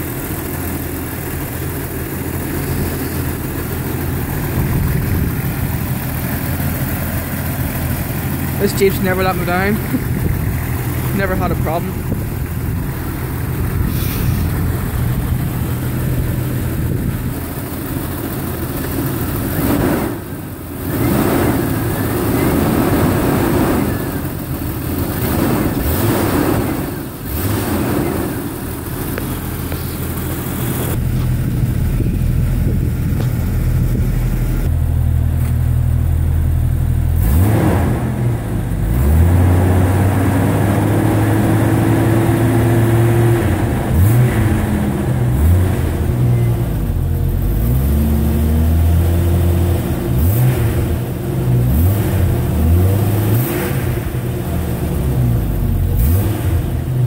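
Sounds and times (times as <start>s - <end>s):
car engine revving: 0.0s - 34.8s, 36.6s - 57.0s.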